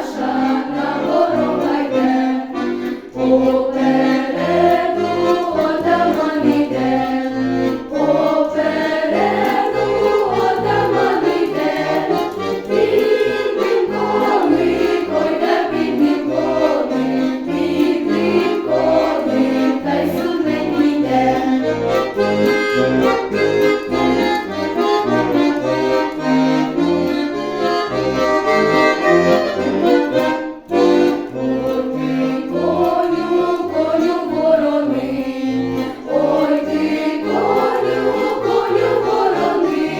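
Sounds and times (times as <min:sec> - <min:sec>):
accordion: 0:00.0 - 0:39.9
choir singing folk song: 0:00.0 - 0:39.9.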